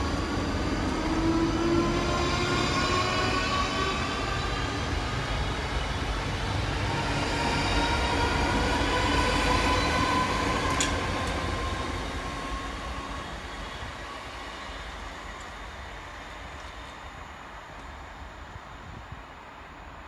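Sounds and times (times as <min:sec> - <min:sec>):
train rail and wheel rumble: 0:00.0 - 0:20.0.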